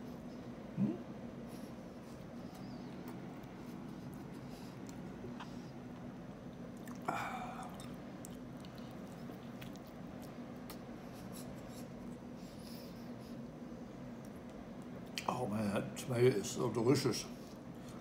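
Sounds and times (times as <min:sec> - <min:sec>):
low hum: 0:00.0 - 0:16.0
person chewing sandwich: 0:00.1 - 0:15.3.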